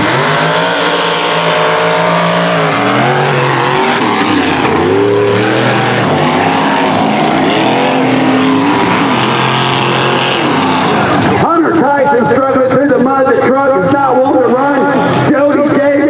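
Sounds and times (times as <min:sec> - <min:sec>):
truck engine revving hard: 0:00.0 - 0:15.7.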